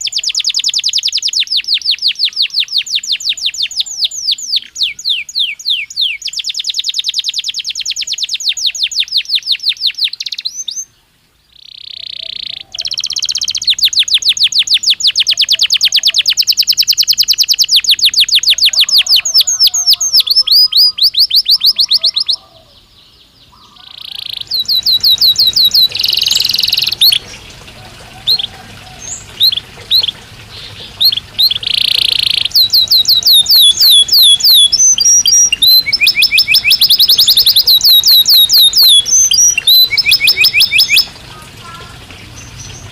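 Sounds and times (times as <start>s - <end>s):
canary singing trills: 0.0s - 10.9s, 11.5s - 42.9s.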